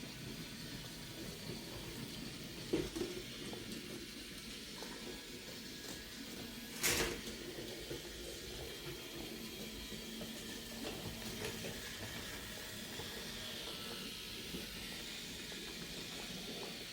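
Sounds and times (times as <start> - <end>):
toy trains whirring rattle: 0.0 - 16.9.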